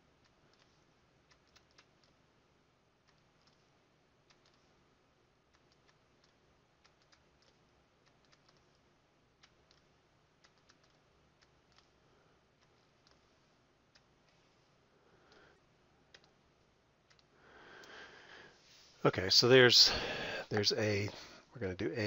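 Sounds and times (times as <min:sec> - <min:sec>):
low steady background hum: 0:00.0 - 0:22.0.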